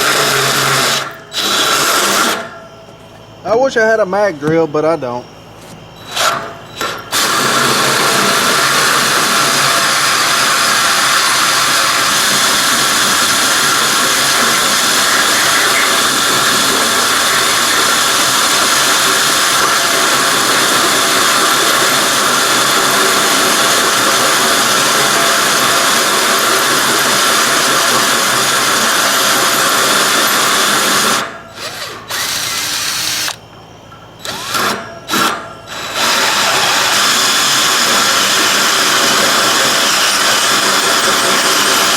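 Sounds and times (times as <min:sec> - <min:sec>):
electric drill cutting steel: 0:00.0 - 0:02.5, 0:06.0 - 0:33.4, 0:34.2 - 0:41.9.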